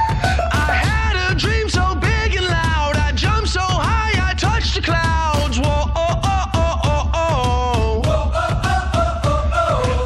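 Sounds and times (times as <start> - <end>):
steady bass: 0.0 - 10.0.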